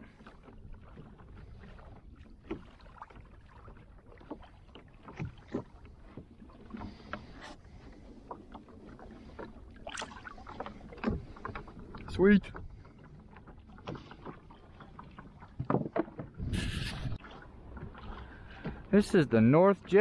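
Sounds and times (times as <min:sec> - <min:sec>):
small splashes and knocks: 0:00.0 - 0:16.4, 0:17.2 - 0:19.0
water lapping against plastic hull: 0:00.0 - 0:20.0.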